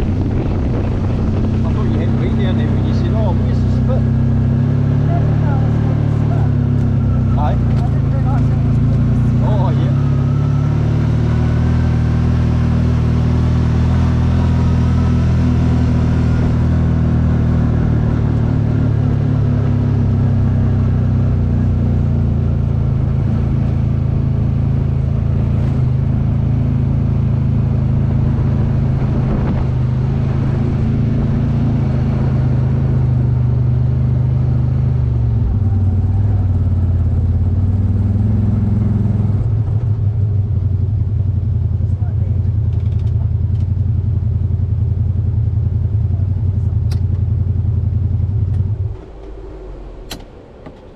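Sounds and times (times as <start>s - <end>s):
vehicle engine running steadily: 0.0s - 50.9s.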